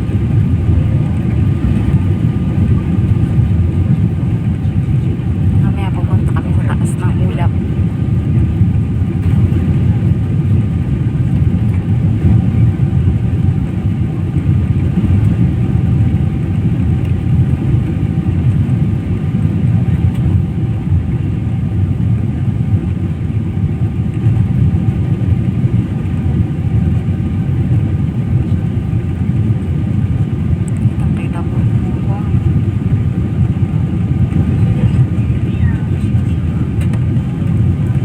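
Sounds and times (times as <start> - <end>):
airliner cabin engine rumble: 0.0 - 38.0.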